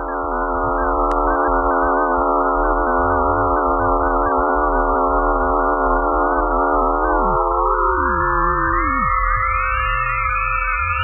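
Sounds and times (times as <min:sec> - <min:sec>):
eerie electronic drone: 0:00.0 - 0:11.0.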